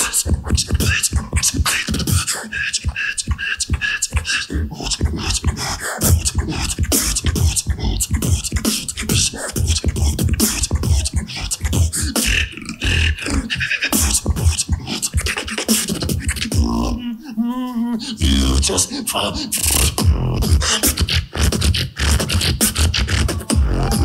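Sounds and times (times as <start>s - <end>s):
beatboxing: 0.0s - 24.0s.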